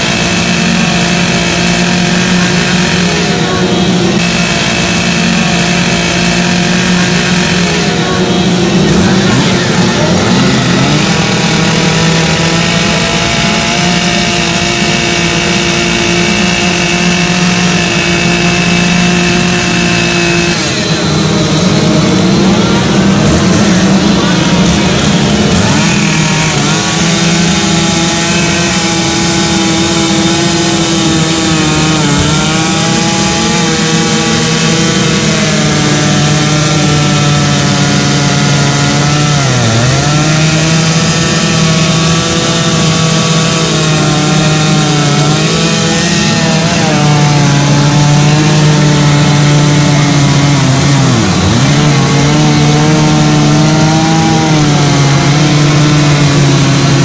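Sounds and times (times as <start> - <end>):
chainsaw carving wood: 0.0 - 57.0.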